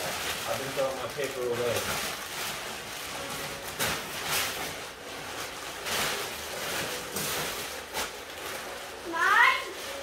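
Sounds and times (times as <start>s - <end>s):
wrapping paper crumpling: 0.0s - 10.0s.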